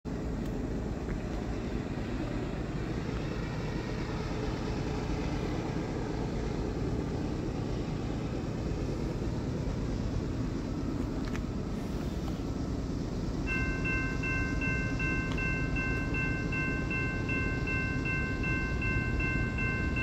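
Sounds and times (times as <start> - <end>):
distant locomotive rumble: 0.1 - 20.0.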